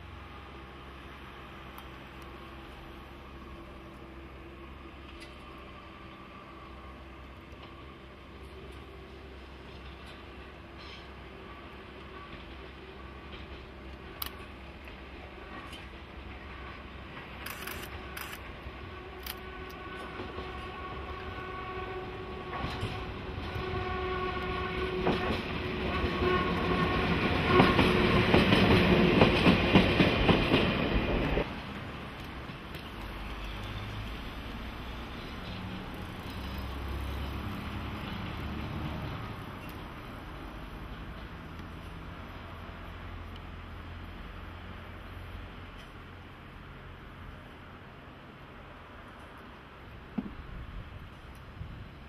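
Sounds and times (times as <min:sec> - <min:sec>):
distant train rumble: 0:00.0 - 0:52.0
locomotive engine drone: 0:00.0 - 0:52.0.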